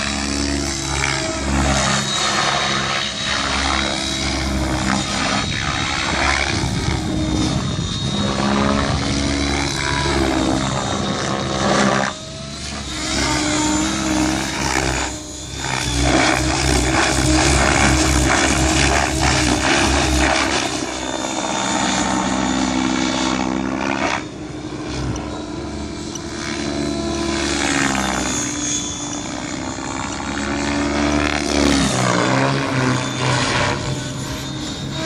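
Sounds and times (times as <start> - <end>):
electric motor whine: 0.0 - 35.0
rotor blades beating and whooshing: 0.0 - 35.0.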